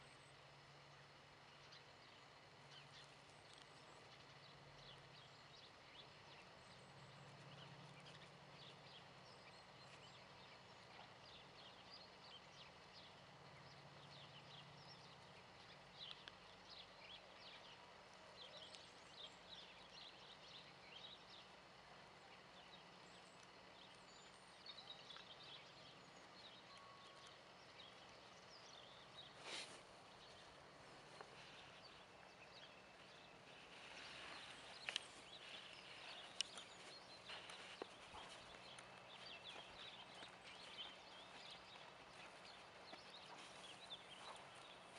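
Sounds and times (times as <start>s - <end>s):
faint high ticks and chirps: 0.0s - 44.9s.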